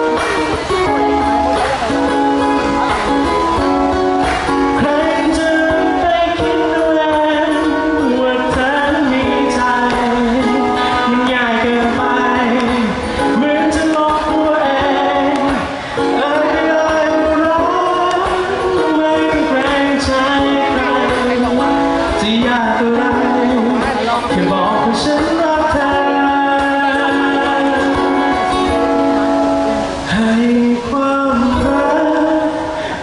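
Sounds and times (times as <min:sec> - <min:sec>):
man singing: 0:00.0 - 0:33.0
ukulele: 0:00.0 - 0:33.0.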